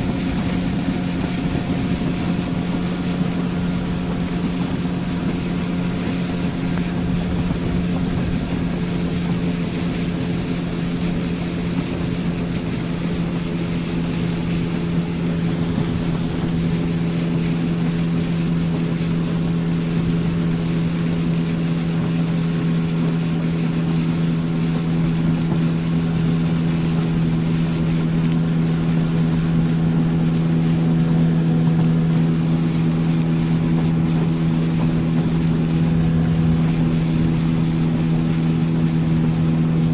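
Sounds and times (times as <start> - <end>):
outboard motor droning: 0.0 - 39.9
water rushing past hull: 0.0 - 39.9.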